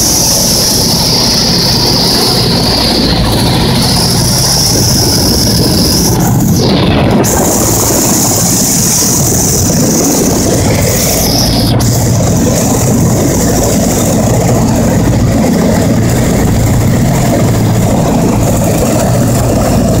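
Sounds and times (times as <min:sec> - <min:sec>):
airplane engines droning: 0:00.0 - 0:20.0.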